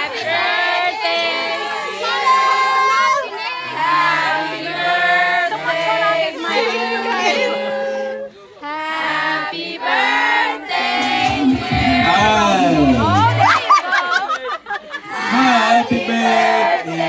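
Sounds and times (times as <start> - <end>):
crowd singing birthday song: 0.0 - 17.0.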